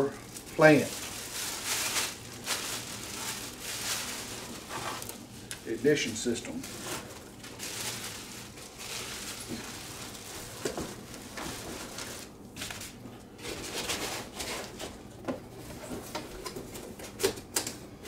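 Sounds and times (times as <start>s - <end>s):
packaging rustling: 0.2s - 15.0s.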